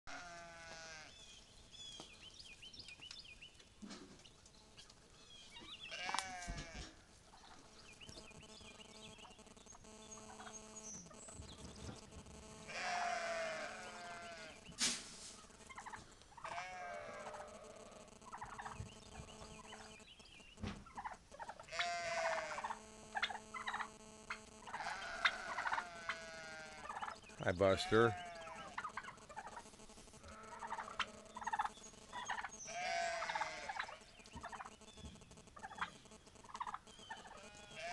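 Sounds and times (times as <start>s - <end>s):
farm animals calling: 0.1s - 37.9s.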